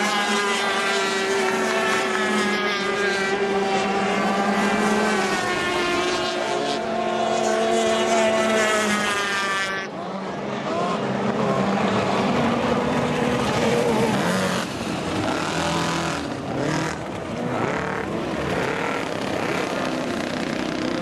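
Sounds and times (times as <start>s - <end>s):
racing outboard engines: 0.0s - 21.0s.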